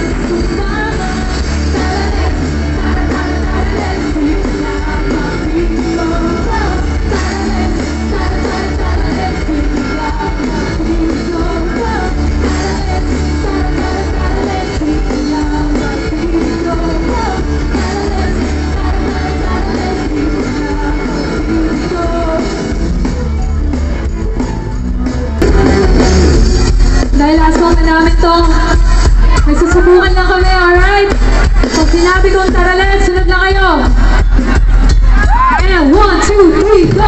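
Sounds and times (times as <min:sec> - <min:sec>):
woman singing: 0:00.0 - 0:22.7, 0:27.1 - 0:33.9, 0:35.3 - 0:37.0
heavy bass: 0:00.0 - 0:37.0
live band over a pa: 0:00.0 - 0:37.0.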